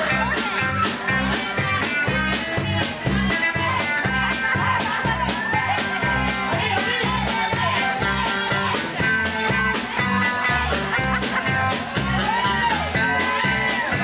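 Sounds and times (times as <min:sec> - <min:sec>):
blues-rock band playing live: 0:00.0 - 0:14.0
electric guitar: 0:00.0 - 0:14.0
steady bass beat: 0:00.0 - 0:14.0.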